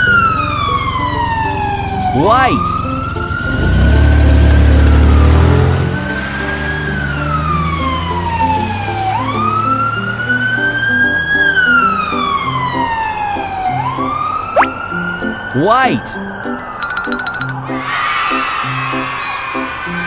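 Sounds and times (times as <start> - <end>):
ambulance siren wailing: 0.0 - 20.0
light background music: 0.0 - 20.0.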